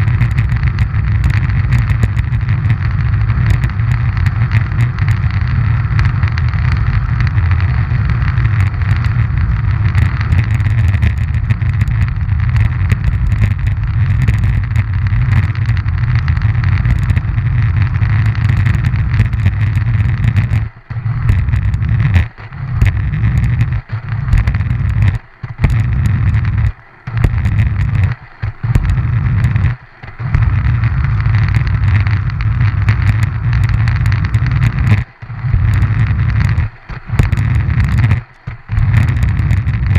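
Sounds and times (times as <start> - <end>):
small wheels rolling on asphalt: 0.0 - 39.9.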